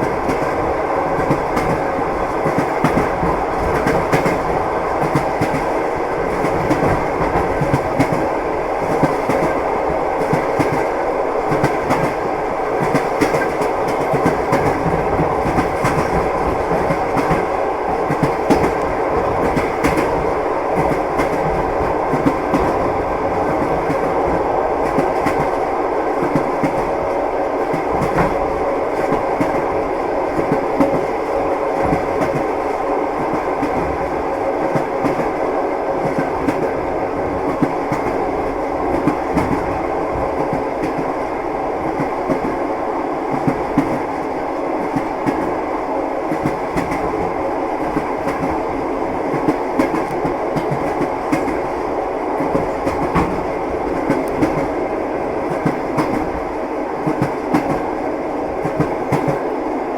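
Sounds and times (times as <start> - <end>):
train wheels clattering on rails: 0.0 - 42.6, 43.3 - 45.6, 46.2 - 59.5.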